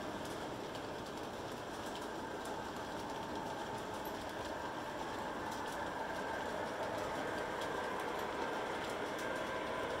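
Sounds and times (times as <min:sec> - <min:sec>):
faint locomotive motor hum: 0:00.0 - 0:10.0
model train wheels rolling on track: 0:00.0 - 0:10.0.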